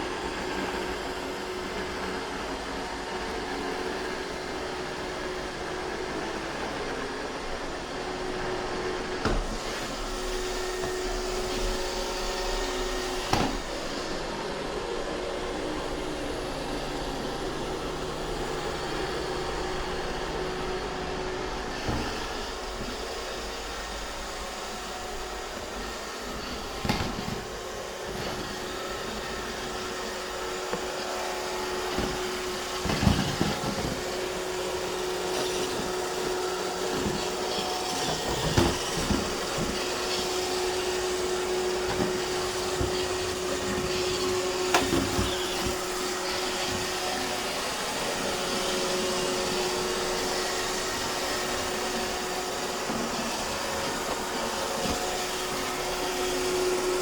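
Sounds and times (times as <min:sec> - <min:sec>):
robot vacuum motor hum: 0:07.6 - 0:57.0.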